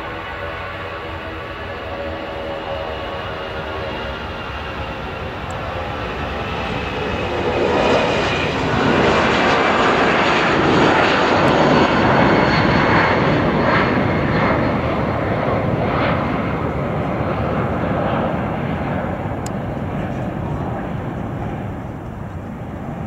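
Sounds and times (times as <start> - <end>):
jet airliner taking off: 0.0 - 23.0.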